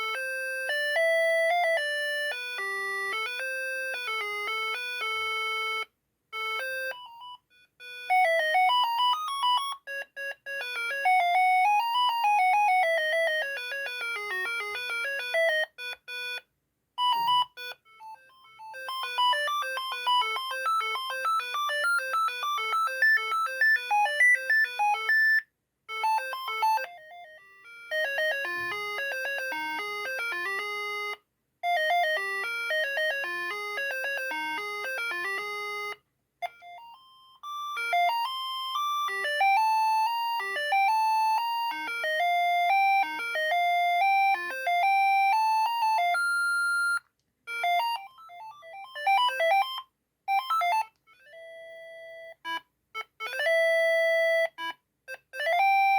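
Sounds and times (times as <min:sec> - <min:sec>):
phone ringtone beeping melody: 0:00.0 - 0:16.4, 0:17.0 - 0:55.9.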